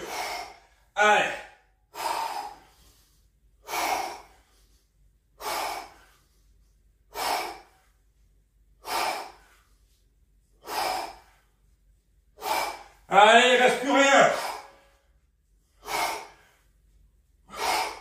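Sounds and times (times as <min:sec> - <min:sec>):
man breathing out hard: 0:00.0 - 0:08.1, 0:08.8 - 0:11.6, 0:12.4 - 0:13.1, 0:14.2 - 0:18.0.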